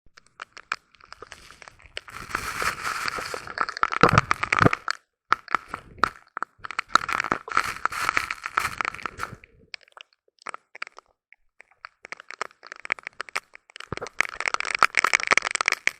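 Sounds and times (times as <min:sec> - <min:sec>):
raindrops hitting microphone: 0:00.1 - 0:15.9.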